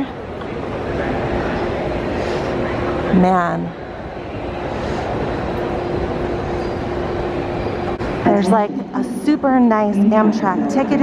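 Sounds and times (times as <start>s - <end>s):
train hall hum: 0.0s - 11.0s.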